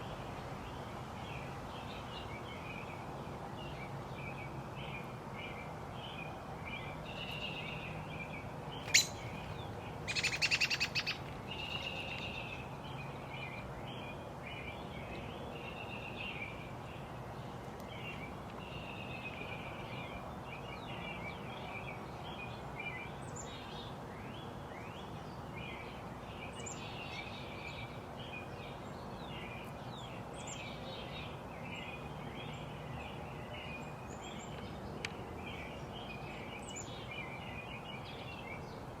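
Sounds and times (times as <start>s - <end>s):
steady background hiss: 0.0s - 39.0s
small birds chirping: 3.6s - 38.9s.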